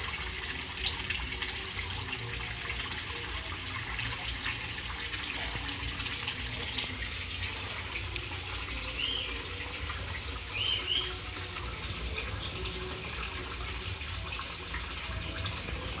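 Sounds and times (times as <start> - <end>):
waterfall splashing into pond: 0.0 - 16.0.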